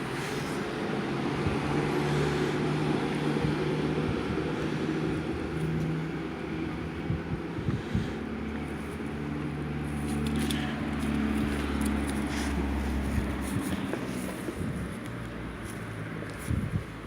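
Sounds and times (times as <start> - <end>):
outdoor street noise: 0.0 - 17.0.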